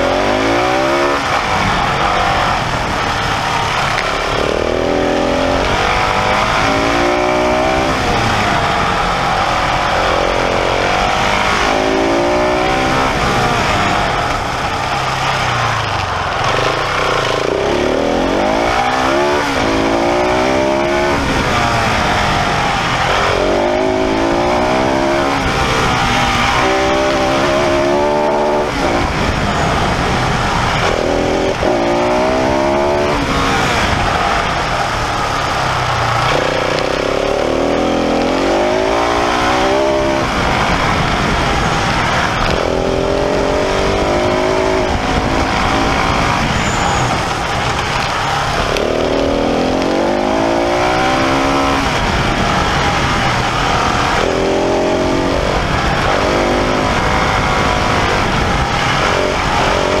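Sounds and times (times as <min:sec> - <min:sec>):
motorcycle engine revving: 0:00.0 - 1:00.0
wind rush: 0:00.0 - 1:00.0.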